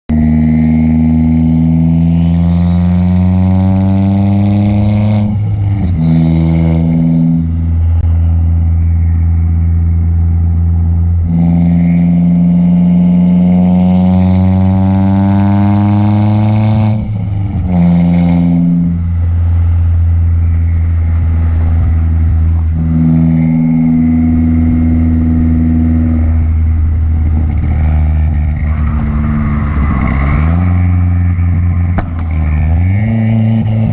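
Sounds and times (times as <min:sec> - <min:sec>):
car engine droning under acceleration: 0:00.1 - 0:33.9.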